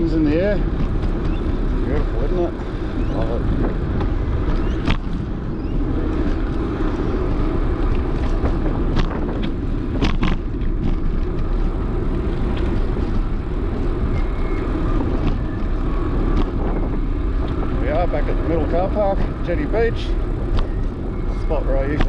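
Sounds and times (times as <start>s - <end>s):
wind and bicycle rolling noise: 0.0s - 22.0s.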